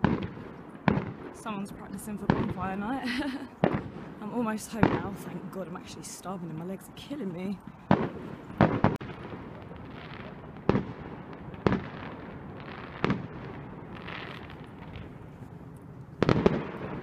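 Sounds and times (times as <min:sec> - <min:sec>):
fireworks bangs: 0:00.0 - 0:06.2, 0:07.1 - 0:17.0.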